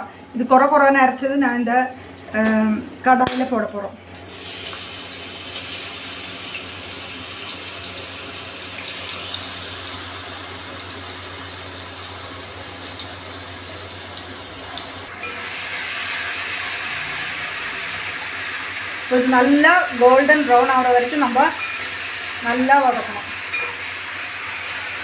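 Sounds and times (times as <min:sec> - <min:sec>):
paste sizzling in hot oil: 0:04.3 - 0:25.0.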